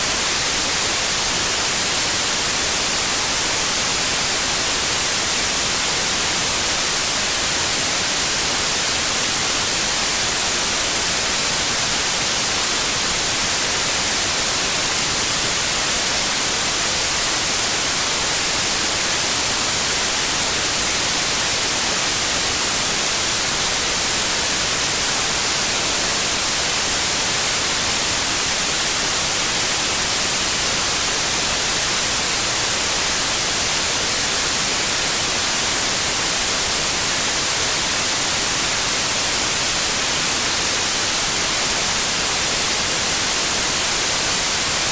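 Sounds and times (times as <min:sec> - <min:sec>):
white noise hiss: 0:00.0 - 0:44.9.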